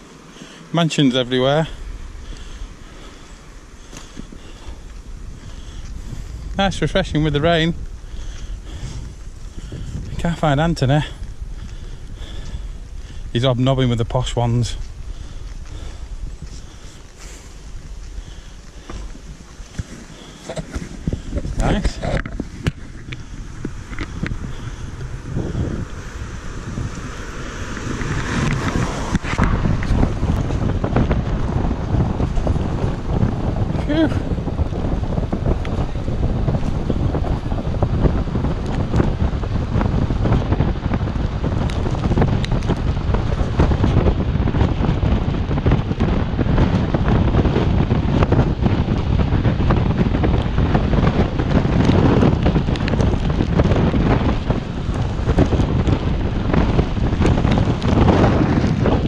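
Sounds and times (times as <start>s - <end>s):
wind buffeting microphone: 0.0s - 59.0s
road knocks and rattles: 1.0s - 59.0s.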